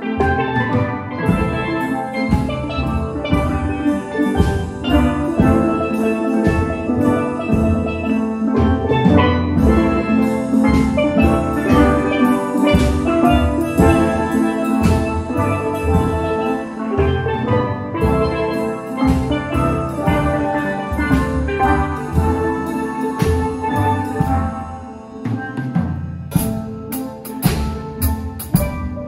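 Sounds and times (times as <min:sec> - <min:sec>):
steel pan band playing: 0:00.0 - 0:29.0.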